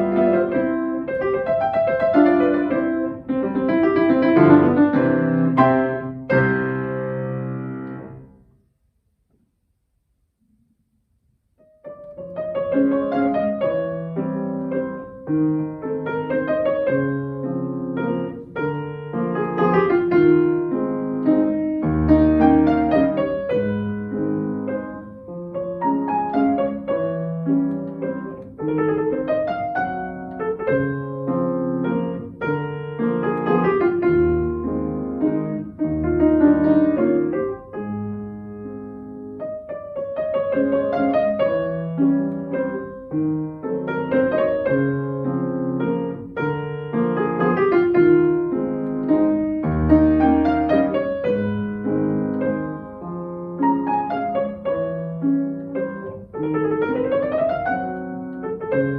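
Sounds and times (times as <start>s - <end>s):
classical piano piece: 0.0s - 8.8s, 11.3s - 58.9s.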